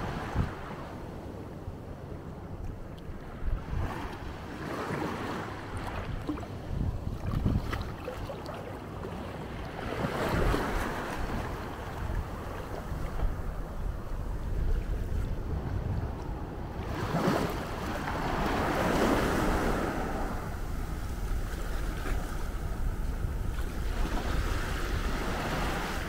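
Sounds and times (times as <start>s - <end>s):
wind on microphone: 0.0s - 0.9s, 2.7s - 26.0s
waves washing onto sand: 3.6s - 26.0s.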